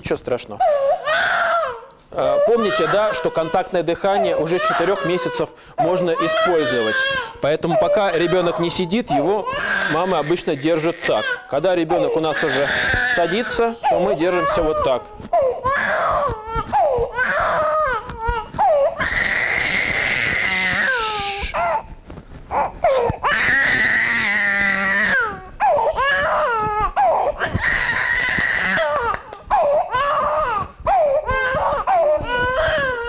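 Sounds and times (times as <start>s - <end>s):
infant crying: 0.6s - 33.0s.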